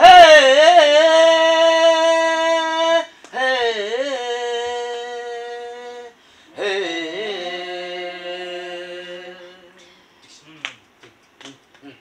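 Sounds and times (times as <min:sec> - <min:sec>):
man singing held notes: 0:00.0 - 0:10.6.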